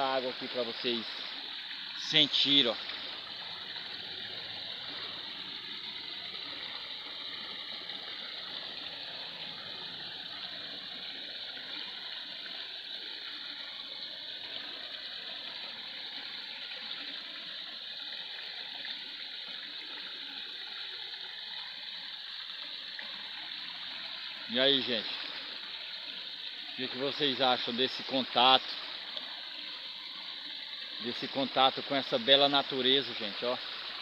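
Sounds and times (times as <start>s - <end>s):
stream splashing over rocks: 0.0s - 34.0s.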